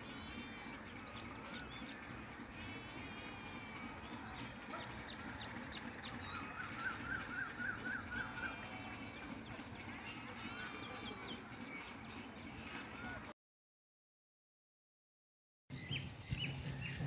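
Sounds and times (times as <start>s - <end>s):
birds chirping and calling: 0.0s - 13.3s, 15.7s - 17.0s.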